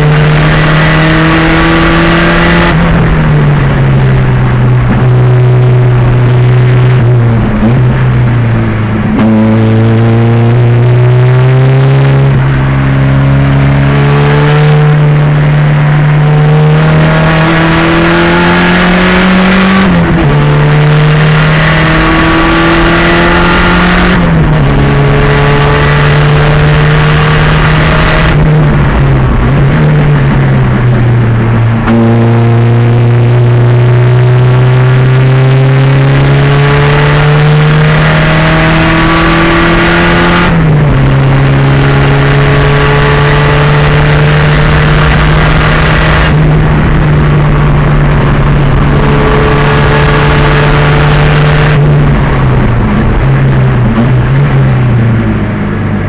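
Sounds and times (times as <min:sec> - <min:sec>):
turbocharged car engine revving: 0:00.0 - 0:56.0.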